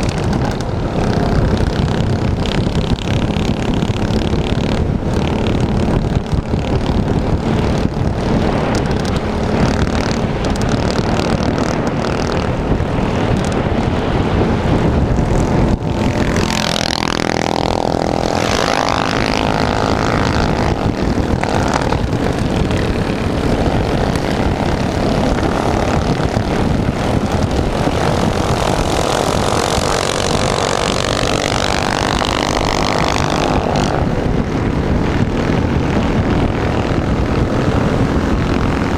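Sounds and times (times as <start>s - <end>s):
minibike engines running: 0.0s - 38.9s.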